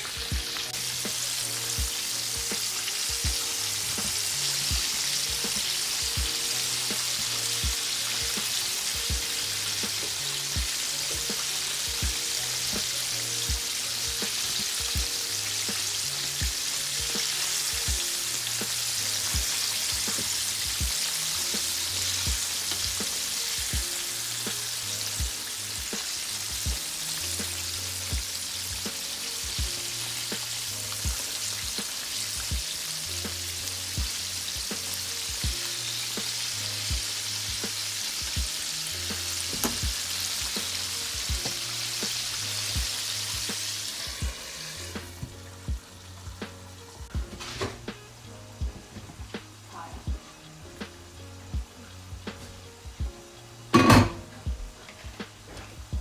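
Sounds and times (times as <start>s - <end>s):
background music with beat: 0.0s - 56.0s
chicken sizzling in hot oil: 0.0s - 56.0s.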